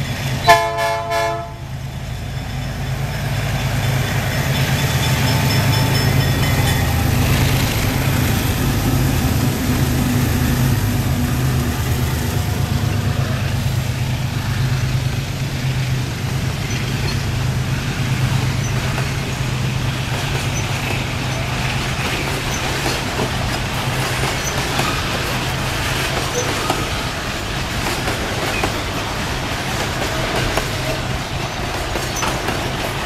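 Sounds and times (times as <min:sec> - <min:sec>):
locomotive engine drone: 0:00.0 - 0:33.0
freight wagons rolling on rails: 0:01.8 - 0:33.0.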